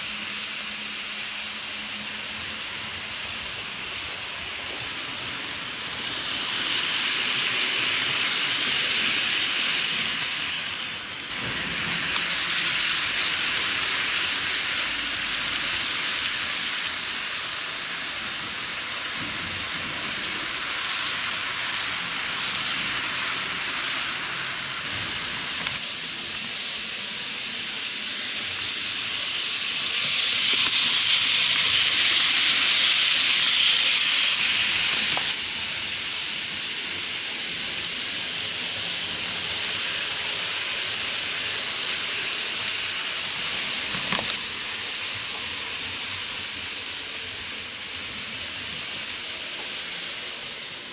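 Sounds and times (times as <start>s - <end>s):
model trains hissing on track: 0.0s - 50.9s.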